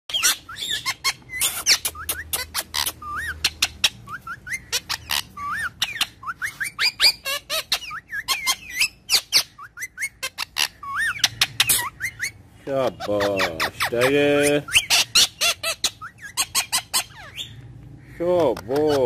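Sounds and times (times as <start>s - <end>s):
parakeets squawking and chirping: 0.1s - 19.0s.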